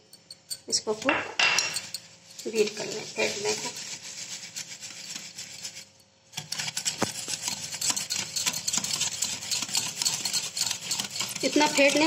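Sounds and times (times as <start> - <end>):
whisk beating in glass bowl: 0.0 - 12.0.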